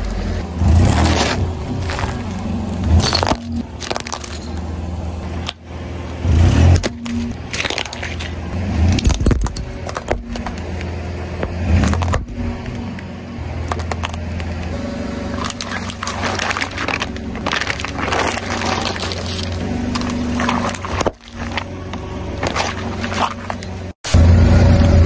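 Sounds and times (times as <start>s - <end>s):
car engine running: 0.0s - 25.0s
objects crunching under tyres: 0.0s - 25.0s.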